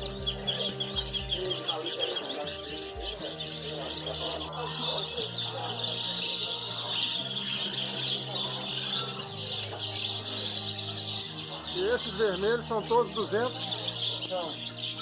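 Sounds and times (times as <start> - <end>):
background music: 0.0 - 15.0
canaries chirping and singing: 0.0 - 15.0.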